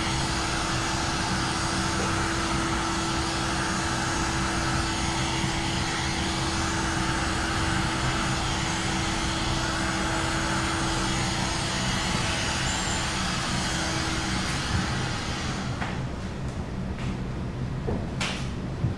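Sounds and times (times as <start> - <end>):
heat gun blowing: 0.0 - 16.1.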